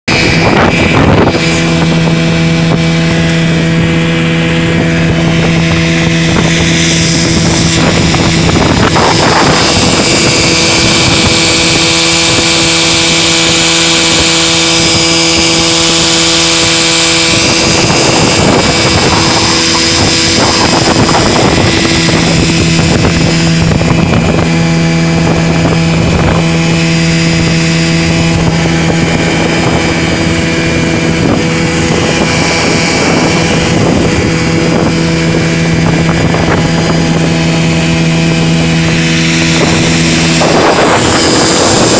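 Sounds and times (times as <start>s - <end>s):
outboard motor running: 0.0s - 41.9s
water rushing: 0.0s - 41.9s
wind: 0.0s - 41.9s.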